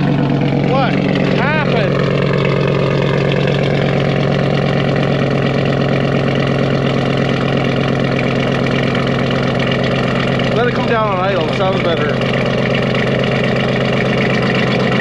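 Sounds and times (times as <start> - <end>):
pickup engine idling loudly: 0.0 - 15.0.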